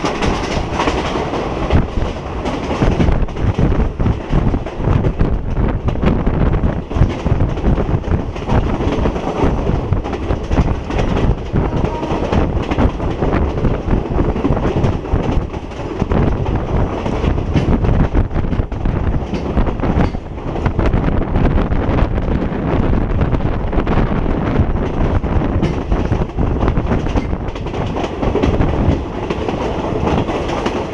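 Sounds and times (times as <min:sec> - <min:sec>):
train wheels clacking on rails: 0:00.0 - 0:22.4, 0:23.2 - 0:30.9
wind buffeting microphone: 0:00.0 - 0:30.9.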